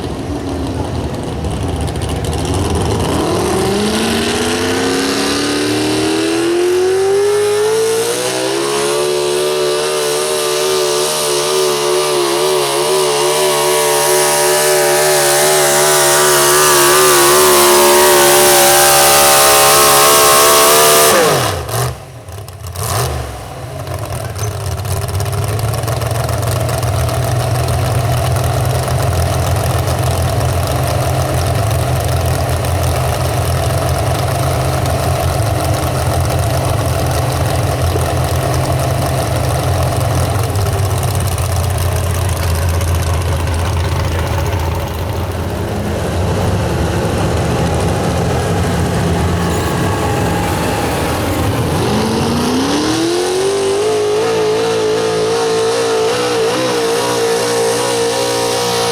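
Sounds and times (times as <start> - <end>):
truck engine running loud: 0.0 - 58.9.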